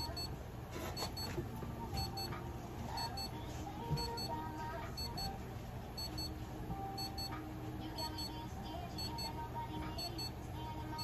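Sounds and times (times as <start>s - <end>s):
low steady hum: 0.0s - 11.0s
soft background music: 0.0s - 11.0s.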